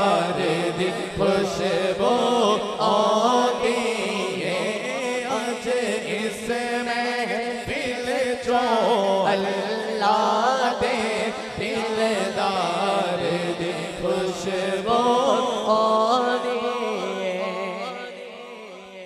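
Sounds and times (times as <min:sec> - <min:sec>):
chanted vocal background: 0:00.0 - 0:19.0
man singing through a microphone: 0:00.0 - 0:19.0.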